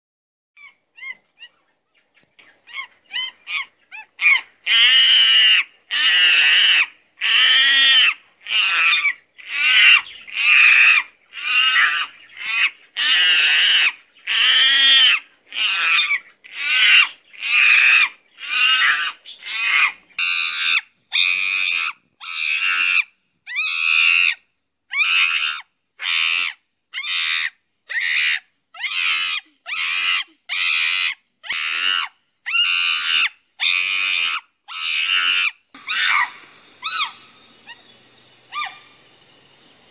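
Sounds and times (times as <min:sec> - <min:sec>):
primate shrieking: 0:02.7 - 0:39.3.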